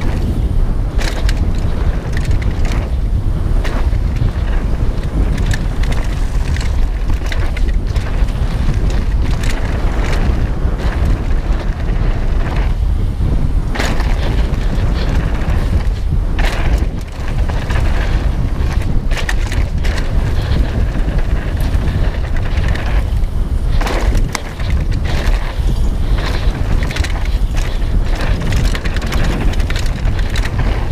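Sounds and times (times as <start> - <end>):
bike knocking and rattling: 0.0 - 30.9
steady loud rumble: 0.0 - 30.9
wind buffeting microphone: 0.0 - 30.9.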